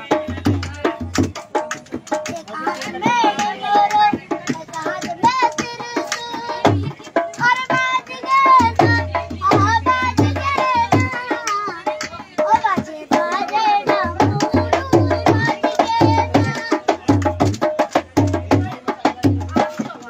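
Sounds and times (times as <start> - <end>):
barrel drum playing: 0.0 - 20.0
boy singing: 0.0 - 20.0.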